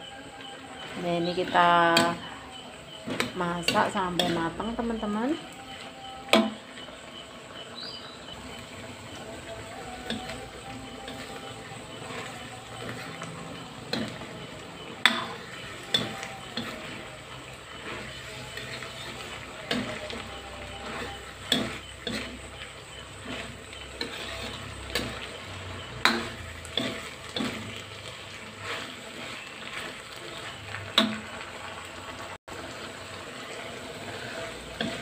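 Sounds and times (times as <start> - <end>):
stir-fry sizzling in a wok: 0.0 - 35.0
metal ladle scraping a wok: 0.8 - 6.8, 8.3 - 31.4, 33.3 - 35.0.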